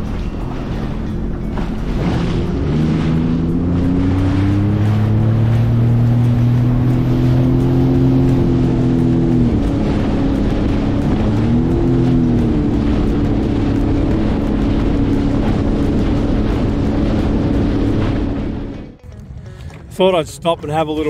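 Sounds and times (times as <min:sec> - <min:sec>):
jet ski engine running: 0:00.0 - 0:21.0
water rushing along hull: 0:00.0 - 0:21.0.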